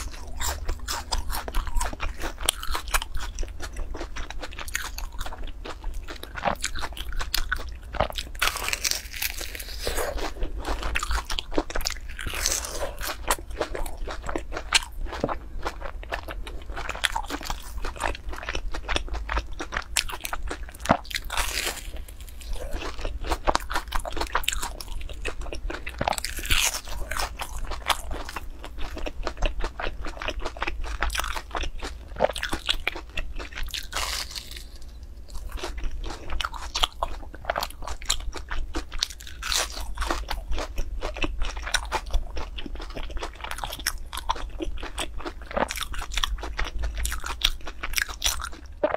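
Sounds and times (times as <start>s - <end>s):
crunchy fried food chewing: 0.0s - 48.9s
steady low hum: 0.0s - 48.9s.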